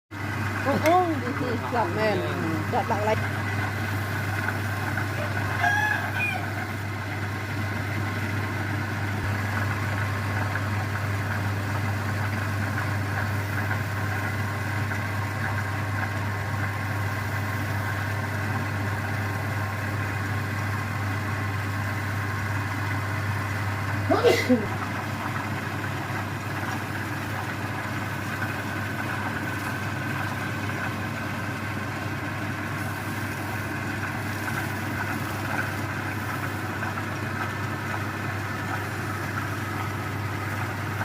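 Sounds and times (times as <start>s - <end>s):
wood lathe motor hum: 0.2s - 41.0s.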